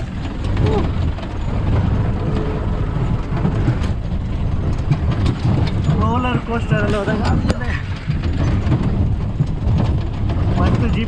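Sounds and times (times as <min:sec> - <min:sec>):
knocks and rattles: 0:00.0 - 0:11.0
vehicle engine and road rumble: 0:00.0 - 0:11.0.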